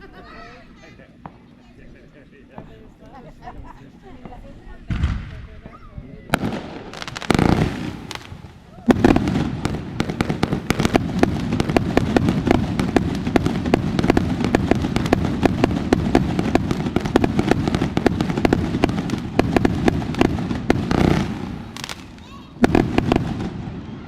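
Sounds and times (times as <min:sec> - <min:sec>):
fireworks cracking and banging: 0:02.5 - 0:24.0.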